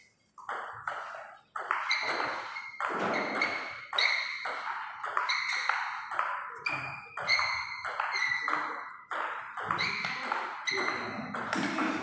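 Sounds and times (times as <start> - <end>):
ping pong ball bouncing on table: 0.4 - 12.0
ping pong ball hitting paddles: 0.4 - 12.0.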